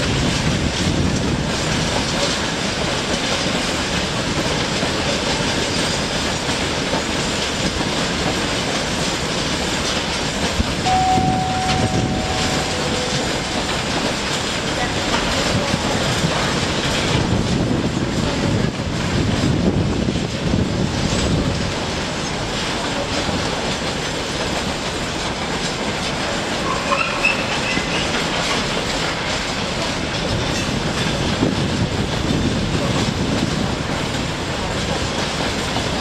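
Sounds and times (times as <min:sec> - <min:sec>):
freight train wheels on track: 0:00.0 - 0:36.0.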